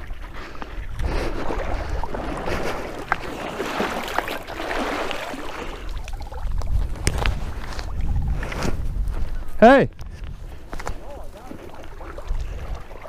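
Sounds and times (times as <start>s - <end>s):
water sloshing and splashing: 0.0s - 9.3s, 10.5s - 13.0s.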